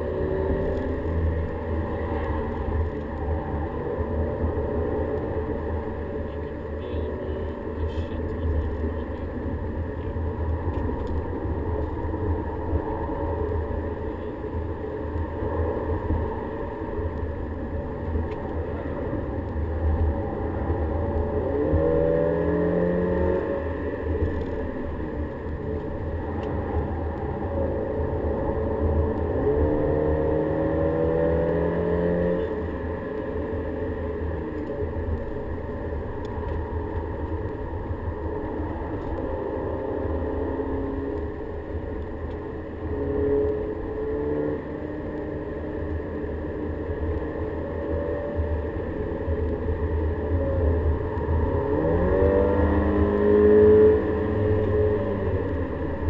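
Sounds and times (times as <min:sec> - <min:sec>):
road noise inside car: 0:00.0 - 0:56.0.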